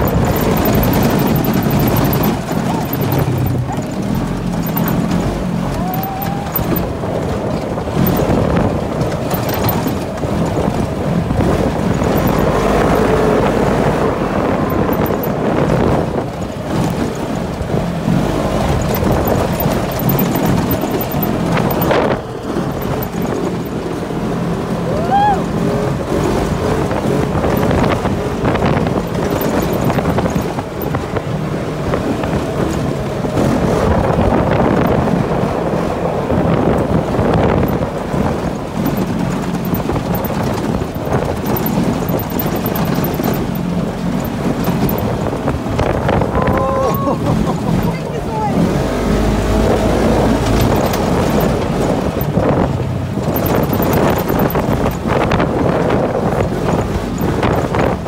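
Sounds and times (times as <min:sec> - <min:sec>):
vehicle engine running: 0:00.0 - 0:58.0
wind buffeting microphone: 0:00.0 - 0:58.0.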